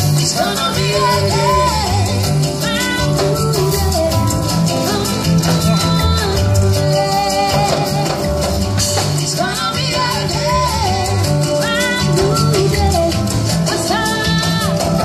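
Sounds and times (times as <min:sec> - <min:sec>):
acoustic guitar: 0:00.0 - 0:15.0
drum kit: 0:00.0 - 0:15.0
person singing lead vocal: 0:00.0 - 0:15.0.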